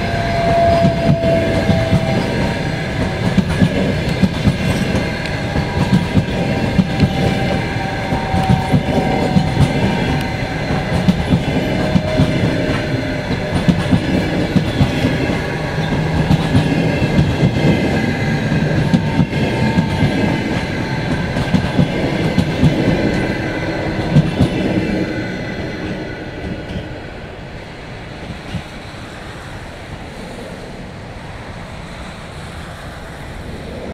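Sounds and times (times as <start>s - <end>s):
train wheels clattering on rails: 0.0s - 27.4s.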